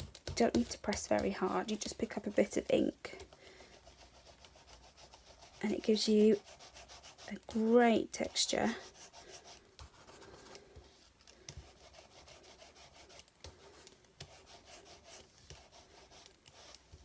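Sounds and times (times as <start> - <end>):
sponge roller rubbing on card: 0.0 - 17.0.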